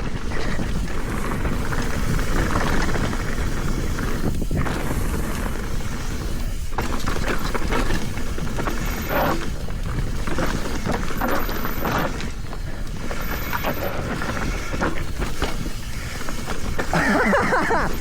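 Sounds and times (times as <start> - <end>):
bike rattling over bumps: 0.0 - 18.0
tyre noise on dirt: 0.0 - 18.0.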